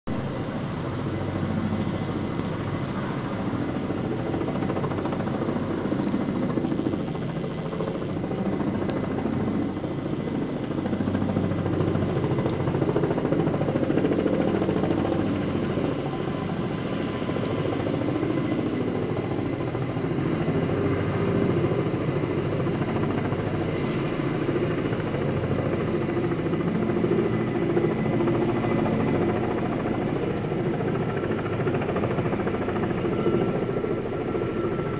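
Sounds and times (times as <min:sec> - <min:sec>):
helicopter rotors beating: 0:00.1 - 0:34.9.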